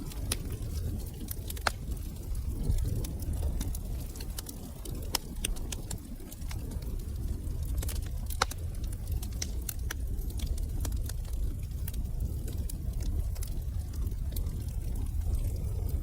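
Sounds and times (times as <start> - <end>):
fire crackling: 0.0 - 16.0
low rush of flames: 0.0 - 16.0.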